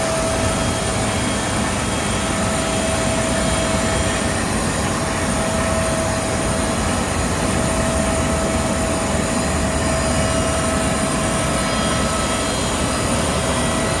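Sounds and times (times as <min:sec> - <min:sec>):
jet turbine rumble and whine: 0:00.0 - 0:14.0.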